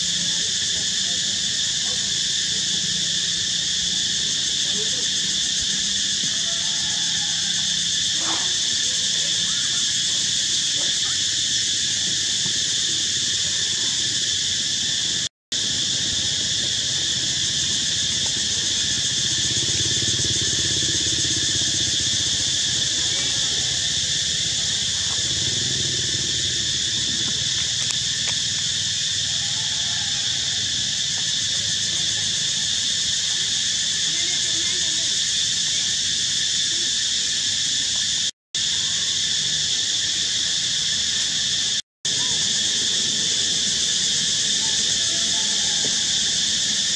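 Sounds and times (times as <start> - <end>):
shrill insect chorus: 0.0 - 46.9.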